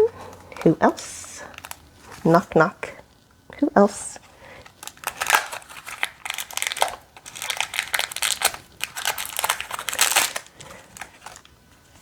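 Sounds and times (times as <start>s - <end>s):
plastic packaging crinkling: 0.0s - 3.3s, 4.2s - 12.0s.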